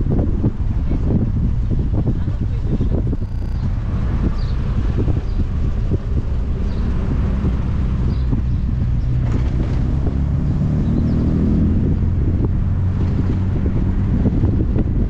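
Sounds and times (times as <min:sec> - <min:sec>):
car engine running: 0:00.0 - 0:15.0
wind noise on microphone: 0:00.0 - 0:15.0.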